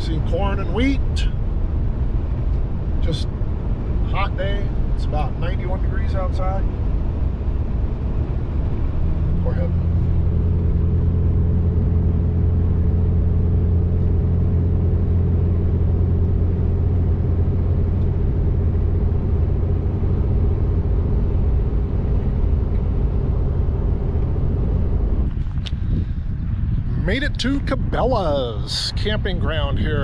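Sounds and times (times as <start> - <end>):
vehicle engine and road noise drone: 0.0 - 30.0.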